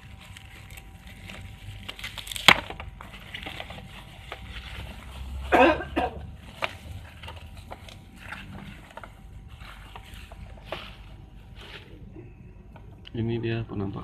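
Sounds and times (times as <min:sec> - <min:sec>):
bubble wrap rustling and crinkling: 0:00.0 - 0:12.3.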